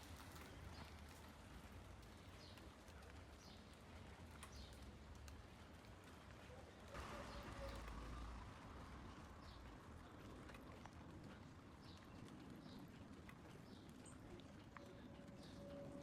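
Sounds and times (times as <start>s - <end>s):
light ticks: 0.1s - 6.4s, 9.1s - 16.0s.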